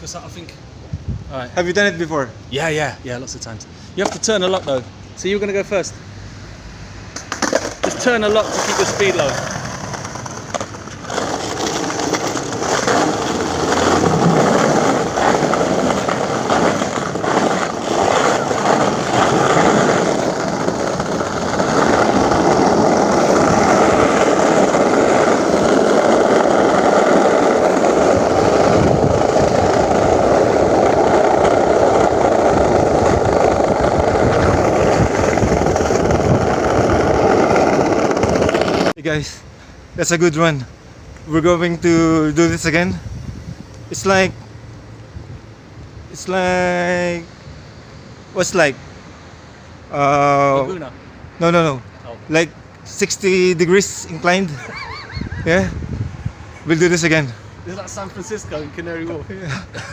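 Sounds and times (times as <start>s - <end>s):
skateboard wheels rolling on pavement: 0.0s - 39.4s, 40.0s - 59.9s.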